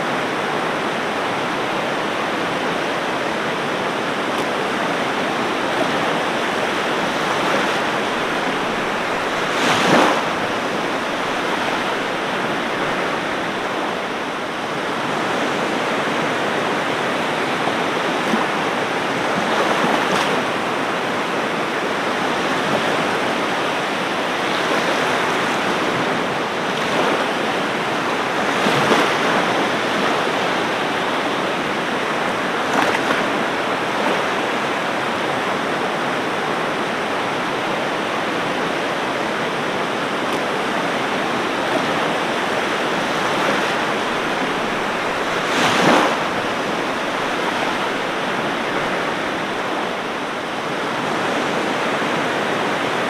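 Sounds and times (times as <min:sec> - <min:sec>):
ocean surf washing onto beach: 0:00.0 - 0:53.0
wave breaking: 0:00.0 - 0:53.0.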